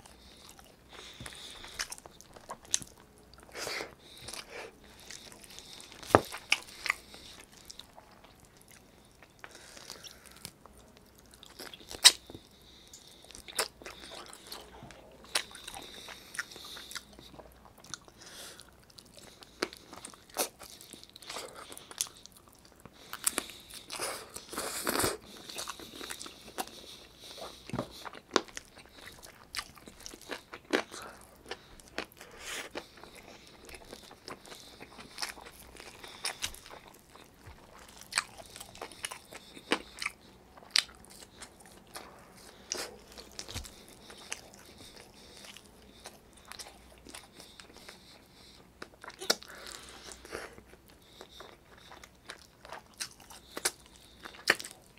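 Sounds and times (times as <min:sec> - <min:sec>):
person chewing with mouth clicks: 0:00.0 - 0:54.9.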